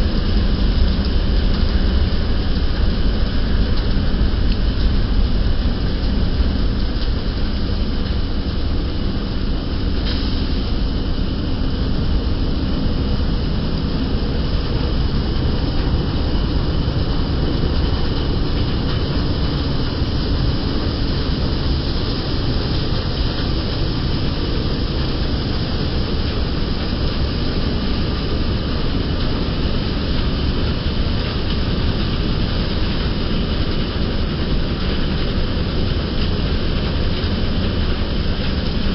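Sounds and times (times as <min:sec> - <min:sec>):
wheat thresher running: 0:00.0 - 0:38.9.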